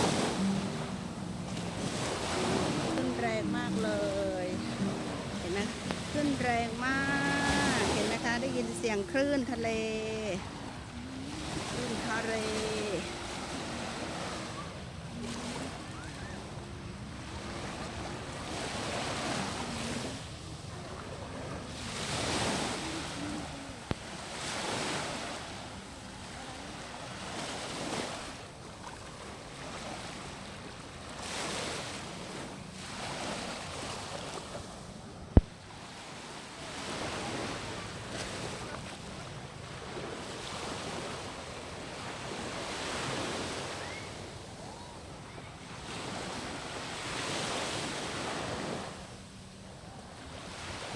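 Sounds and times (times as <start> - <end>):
surf breaking on beach: 0.0 - 49.2.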